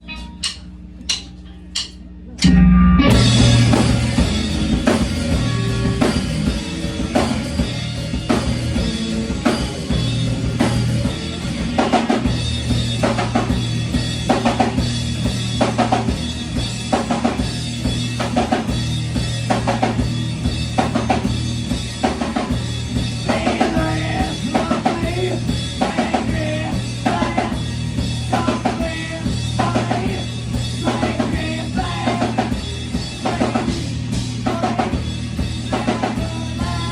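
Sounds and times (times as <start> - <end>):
bass line: 0.0 - 36.9
drum kit steady beat: 0.0 - 36.9
live band playing: 0.0 - 36.9.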